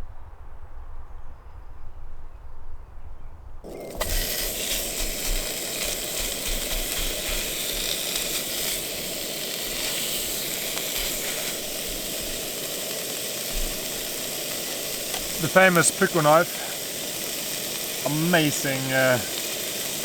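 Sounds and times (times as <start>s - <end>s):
food sizzling in a frying pan: 3.7s - 20.0s.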